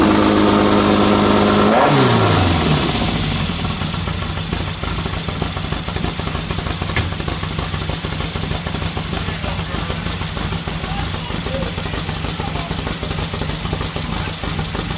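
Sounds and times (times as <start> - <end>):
car engine revving and idling: 0.0 - 14.9.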